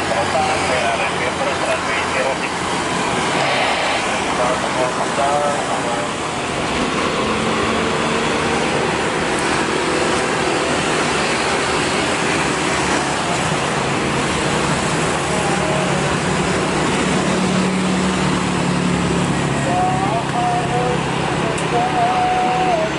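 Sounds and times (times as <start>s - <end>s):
engines and traffic noise: 0.0s - 22.9s.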